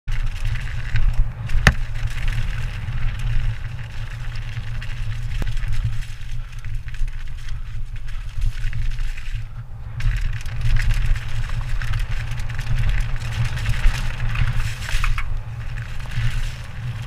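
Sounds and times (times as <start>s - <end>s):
tyres on dirt and snow: 0.0s - 17.0s
wind and vibration rumble: 0.0s - 17.0s.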